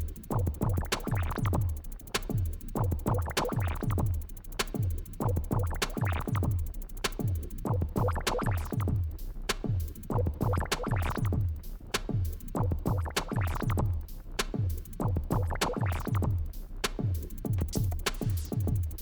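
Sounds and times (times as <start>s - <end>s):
drum-machine beat: 0.0s - 19.0s
electronic music: 0.0s - 19.0s.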